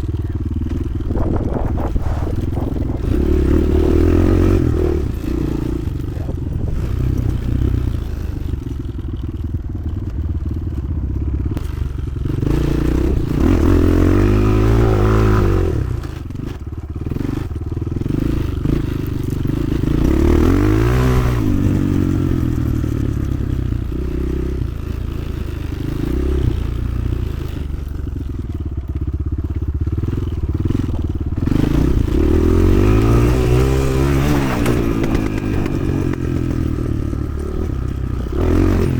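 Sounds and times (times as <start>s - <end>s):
motorcycle clattering over rough ground: 0.0s - 38.9s
motorcycle engine revving: 0.0s - 38.9s.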